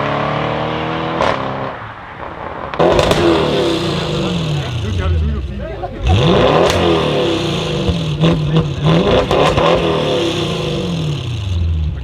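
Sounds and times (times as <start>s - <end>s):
car engine revving: 0.0s - 12.0s
exhaust crackles: 1.0s - 12.0s.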